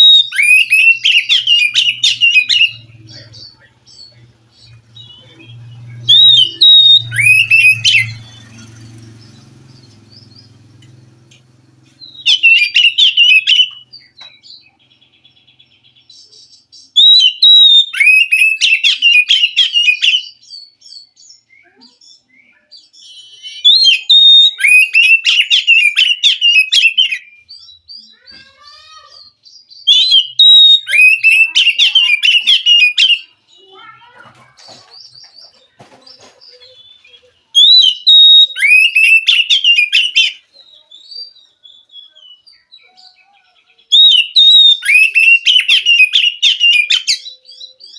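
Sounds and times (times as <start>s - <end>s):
bird singing whistled phrases: 0.0s - 9.3s, 12.0s - 14.6s, 16.0s - 34.0s, 36.6s - 47.9s.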